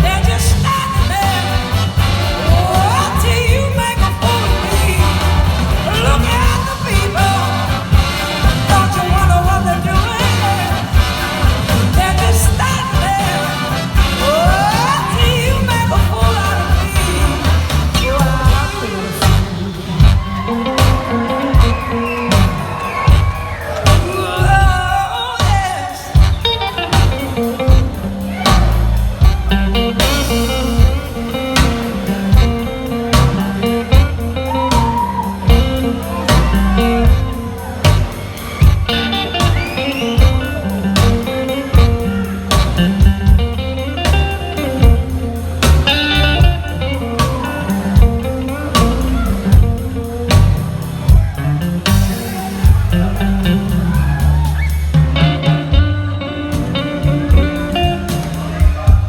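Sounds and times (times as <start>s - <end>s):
blues-rock band playing: 0.0s - 59.0s
lead guitar: 0.0s - 59.0s.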